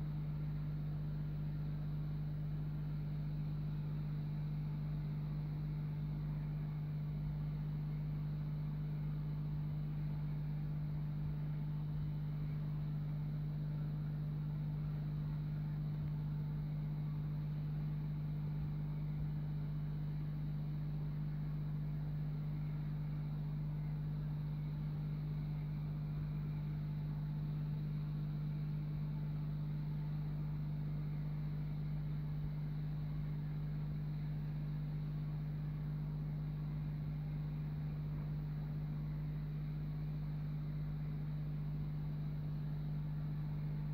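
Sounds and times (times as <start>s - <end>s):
aquarium filter pump humming: 0.0s - 43.9s.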